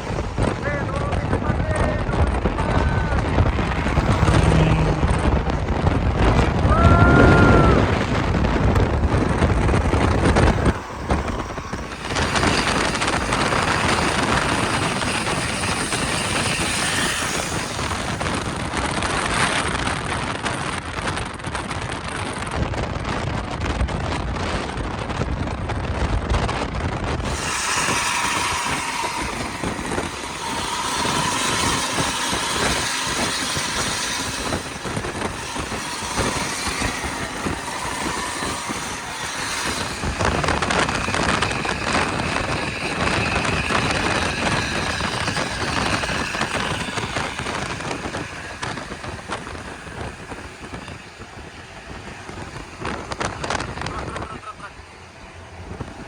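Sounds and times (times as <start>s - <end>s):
steady high tones: 0.0s - 19.8s, 27.2s - 56.0s
bus engine and road noise: 0.0s - 56.0s.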